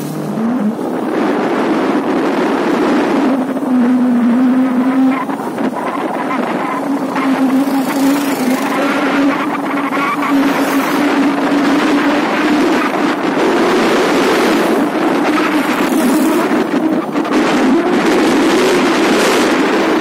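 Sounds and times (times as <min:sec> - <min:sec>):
rushing wind noise: 0:00.0 - 0:20.0.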